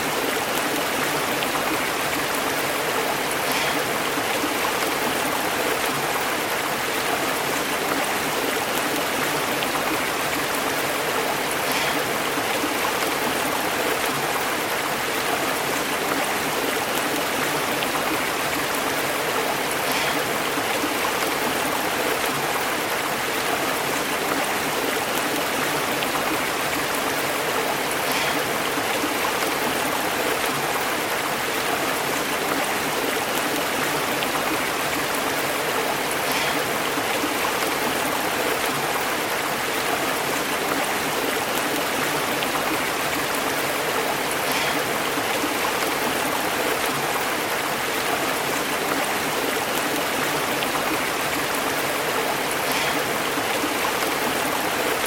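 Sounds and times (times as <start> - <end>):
stream burbling over rocks: 0.0 - 55.0.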